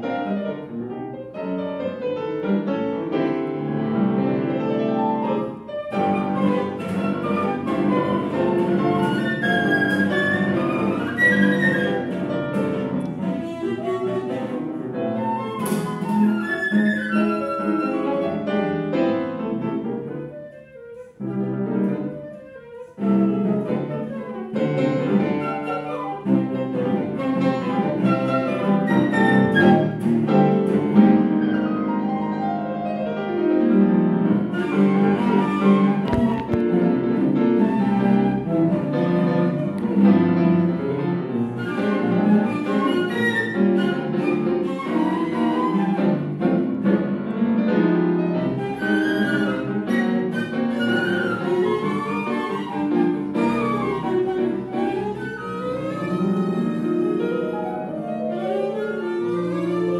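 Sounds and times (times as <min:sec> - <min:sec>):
violin and cello chamber music: 0:05.1 - 0:19.9, 0:22.8 - 0:31.6, 0:33.6 - 0:59.9.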